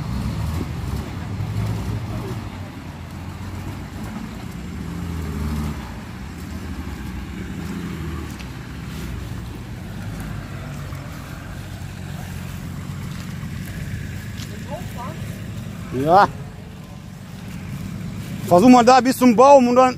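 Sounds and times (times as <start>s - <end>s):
off-road vehicle engine revving: 0.0s - 19.9s.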